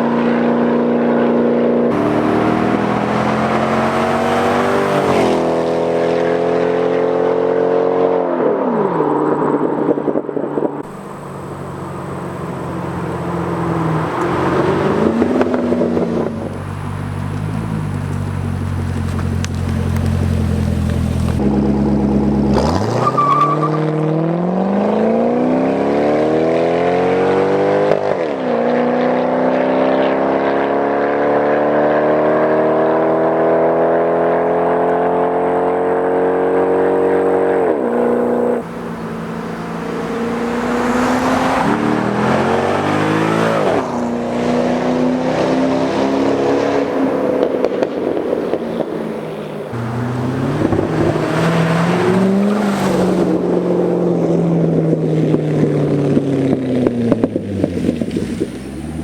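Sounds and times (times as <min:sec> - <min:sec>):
car engine revving and accelerating: 0:00.0 - 0:59.0.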